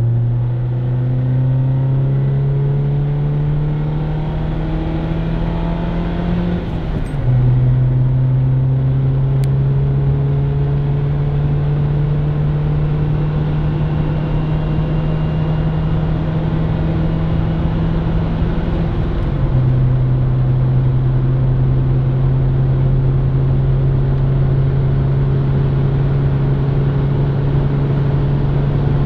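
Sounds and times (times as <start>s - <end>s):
low drone in car cabin: 0.0s - 29.0s
road noise: 0.0s - 29.0s.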